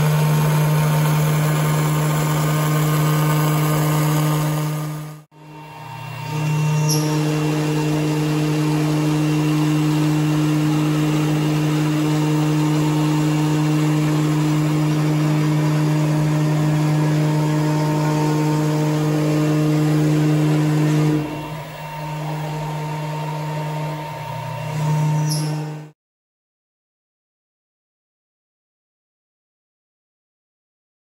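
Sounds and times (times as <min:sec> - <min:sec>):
router spindle whine: 0:00.0 - 0:25.9.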